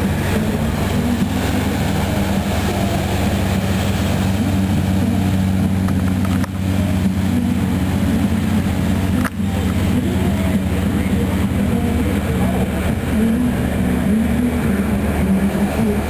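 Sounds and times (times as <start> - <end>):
boat engines droning: 0.0 - 16.0
water: 0.0 - 16.0
wind: 0.0 - 16.0.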